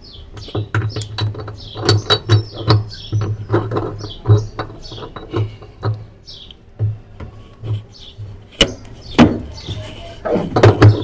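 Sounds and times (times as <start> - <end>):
bird chirps: 0.0 - 6.6, 7.7 - 10.2.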